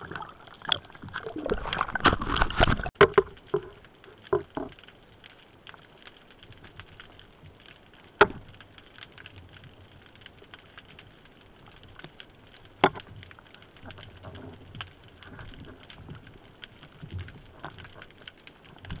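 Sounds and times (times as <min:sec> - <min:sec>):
faint underwater crackling: 0:00.0 - 0:19.0.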